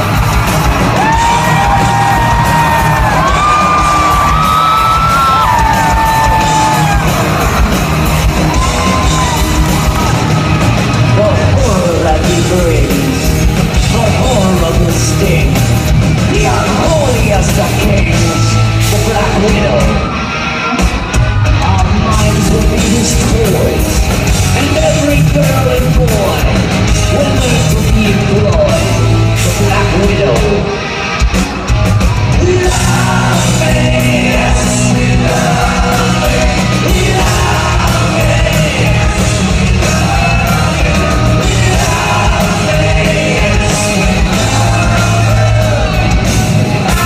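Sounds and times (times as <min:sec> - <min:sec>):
drums: 0:00.0 - 0:47.0
live rock band playing: 0:00.0 - 0:47.0
male lead singer: 0:00.0 - 0:47.0.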